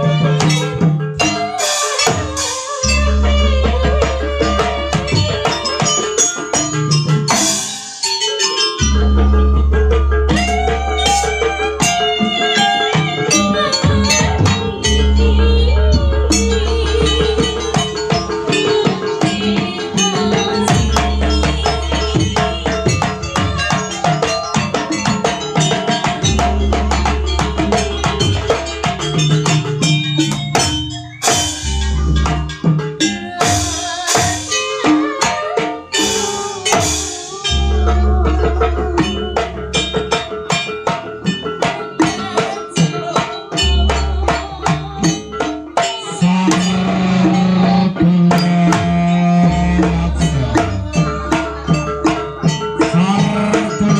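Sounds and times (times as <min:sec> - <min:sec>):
percussion ensemble drums and metallophones: 0:00.0 - 0:53.9.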